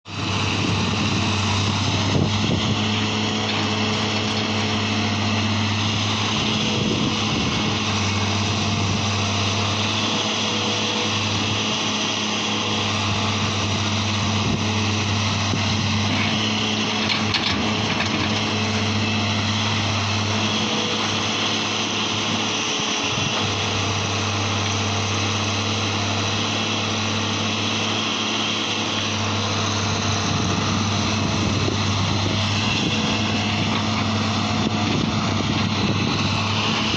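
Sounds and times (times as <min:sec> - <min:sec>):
diesel engine running: 0:00.1 - 0:36.9.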